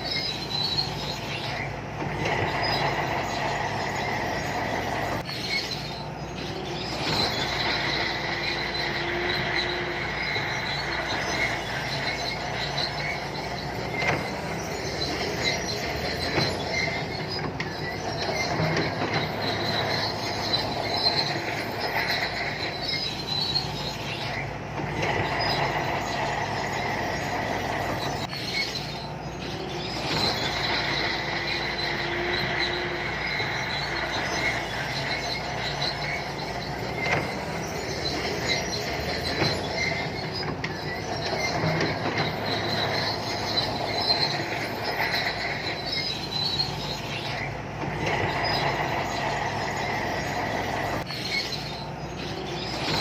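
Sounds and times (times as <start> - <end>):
diesel engine running: 0.0 - 53.0
metallic squeal of tracks: 0.0 - 53.0.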